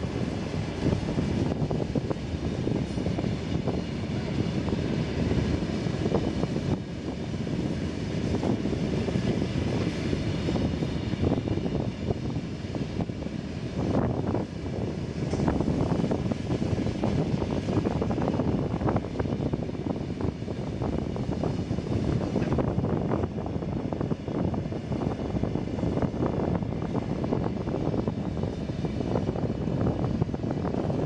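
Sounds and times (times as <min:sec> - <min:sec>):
heavy rumble of train wagons: 0:00.0 - 0:31.0.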